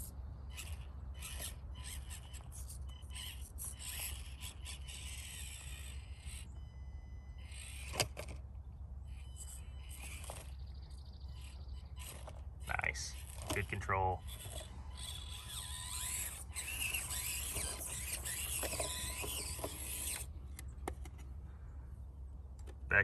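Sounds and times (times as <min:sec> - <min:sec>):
small electric motor and gears whining: 0:00.0 - 0:21.6
steady low hum: 0:00.0 - 0:23.0.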